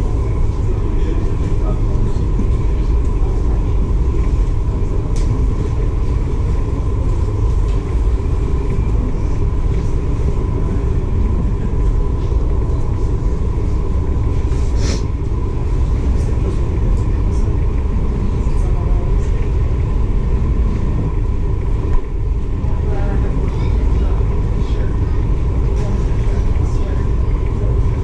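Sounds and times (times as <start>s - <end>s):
faint steady hum: 0.0s - 28.0s
ferry low rumble: 0.0s - 28.0s.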